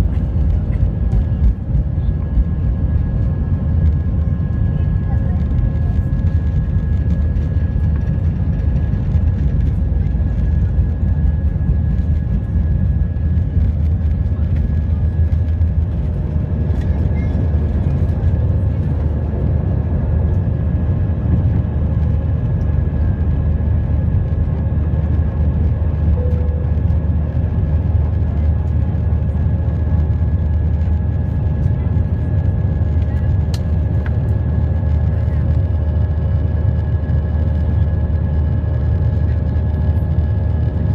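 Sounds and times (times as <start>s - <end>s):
faint steady whining tones: 0.0s - 40.9s
low rumble of jet engines: 0.0s - 40.9s.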